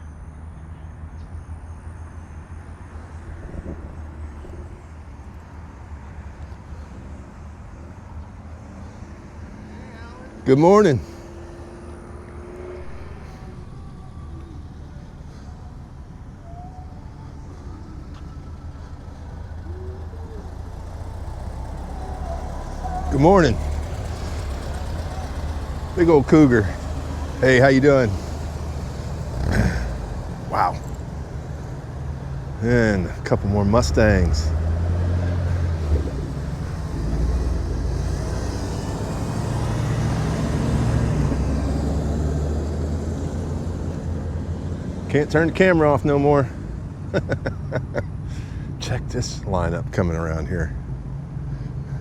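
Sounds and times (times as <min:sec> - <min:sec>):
car engines rumbling past: 0:00.0 - 0:52.0.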